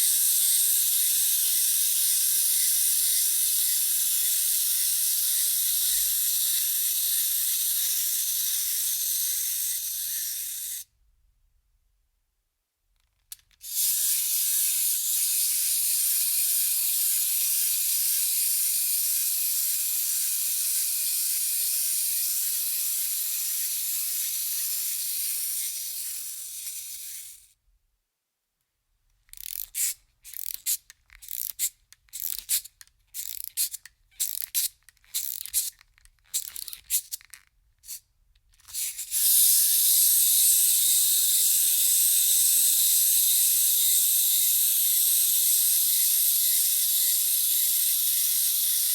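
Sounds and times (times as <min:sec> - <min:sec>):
key winding ratchet: 0:00.0 - 0:10.8, 0:13.0 - 0:27.5, 0:29.2 - 0:48.9
clockwork spring motor whirring: 0:00.0 - 0:10.9, 0:13.3 - 0:27.5, 0:29.3 - 0:38.0, 0:38.6 - 0:48.9.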